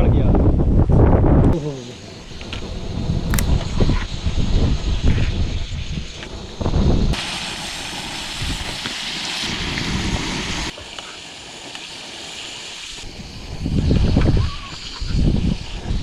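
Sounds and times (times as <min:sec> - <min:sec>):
strong wind buffeting microphone: 0:00.0 - 0:10.7, 0:13.0 - 0:16.0.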